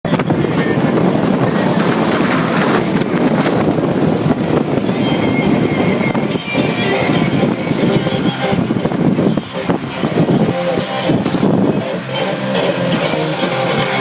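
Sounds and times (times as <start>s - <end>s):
boat rushing through water: 0.0s - 14.0s
wind buffeting microphone: 0.0s - 14.0s.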